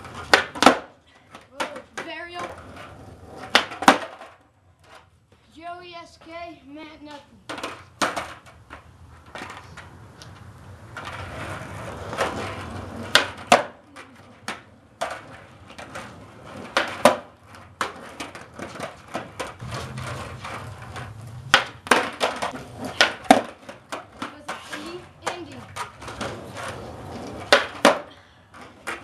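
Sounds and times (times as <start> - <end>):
skateboard wooden clacks: 0.0 - 5.1, 7.4 - 29.0
skateboard wheels rolling on concrete: 0.0 - 29.0.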